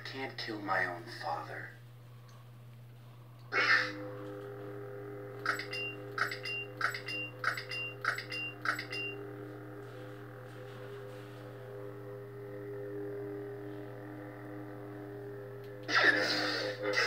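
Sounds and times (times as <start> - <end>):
lightsaber idle hum: 0.0 - 17.0.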